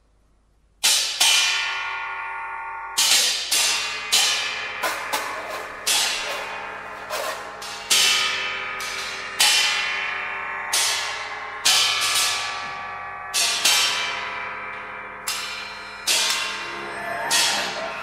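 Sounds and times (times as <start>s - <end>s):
ringing metal percussion strikes: 0.8s - 18.0s.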